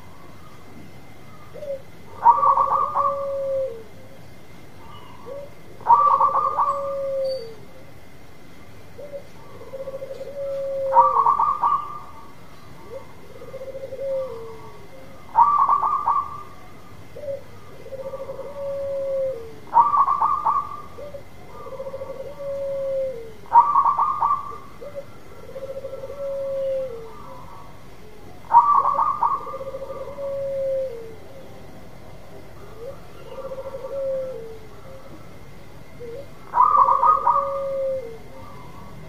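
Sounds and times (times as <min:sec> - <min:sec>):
dove cooing: 0:00.0 - 0:08.1, 0:08.9 - 0:39.0.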